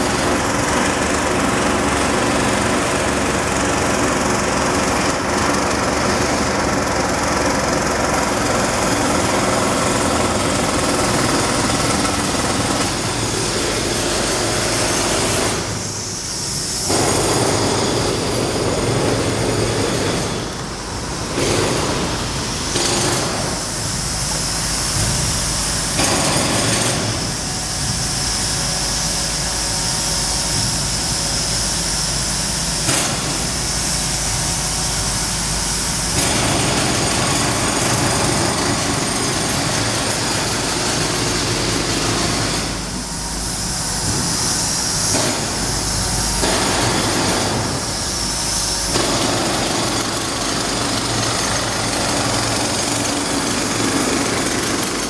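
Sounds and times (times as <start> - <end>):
jackhammer breaking concrete: 0.0 - 15.9, 16.9 - 24.0, 24.8 - 27.6, 31.7 - 42.9, 45.1 - 45.7, 46.4 - 48.0, 48.8 - 55.0.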